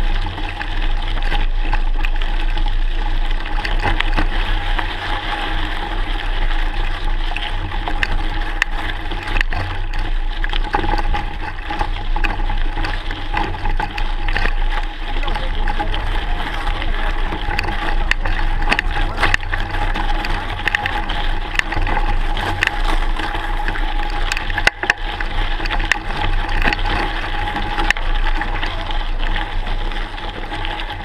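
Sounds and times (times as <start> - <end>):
bike tyres rolling on gravel: 0.0 - 31.0
ticks and rattles: 0.0 - 31.0.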